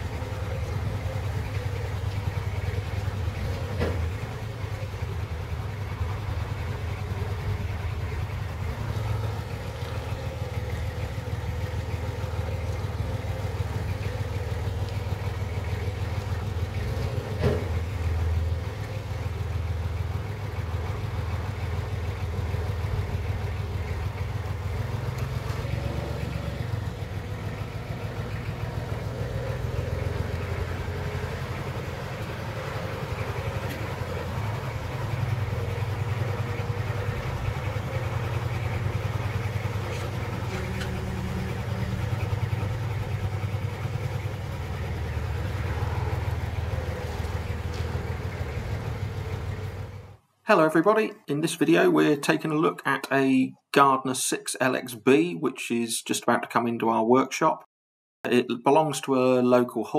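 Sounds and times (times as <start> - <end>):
forklift engine running: 0.0 - 50.3.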